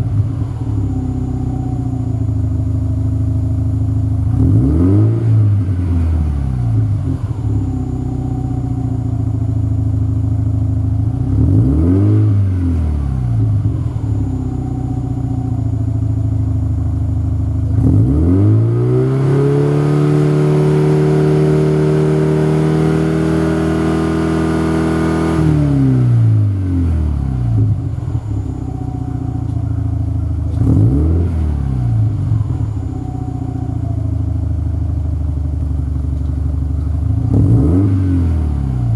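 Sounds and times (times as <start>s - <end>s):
car exhaust idling and revving: 0.0s - 38.9s.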